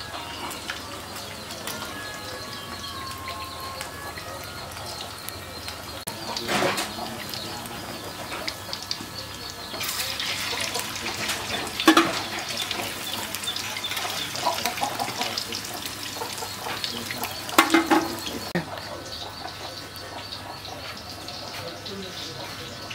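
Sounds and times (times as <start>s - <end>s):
deep-frying crackling sizzle: 0.0s - 22.9s.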